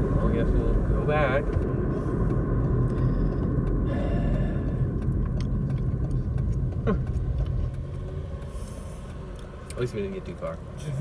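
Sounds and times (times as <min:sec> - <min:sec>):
car cabin engine and road rumble: 0:00.0 - 0:11.0.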